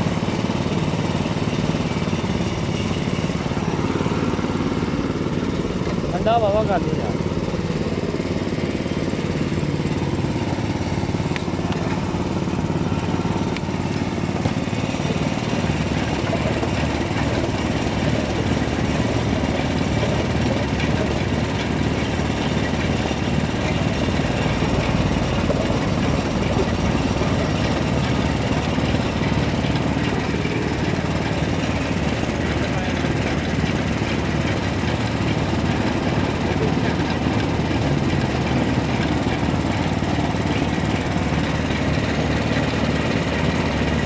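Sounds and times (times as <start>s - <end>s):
juice crusher engine running: 0.0s - 44.0s.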